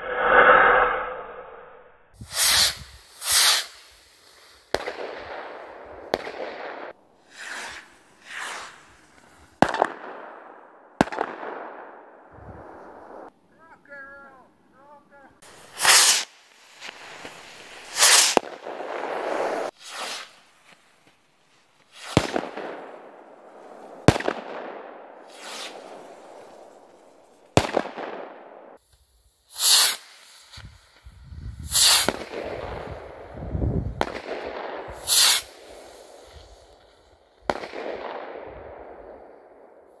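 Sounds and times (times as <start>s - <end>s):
firework rockets launching and banging: 2.2s - 13.3s, 15.4s - 40.0s.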